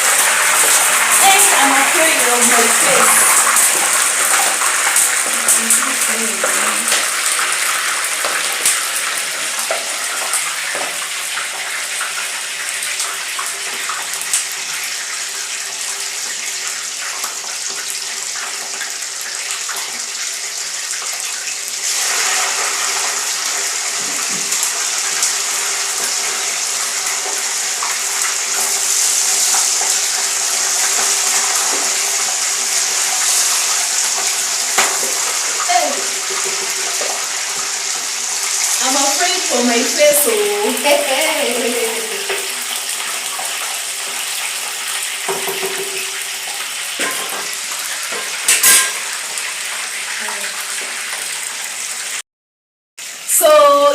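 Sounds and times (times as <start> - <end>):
chicken sizzling in hot oil: 0.0 - 52.2, 53.0 - 53.9.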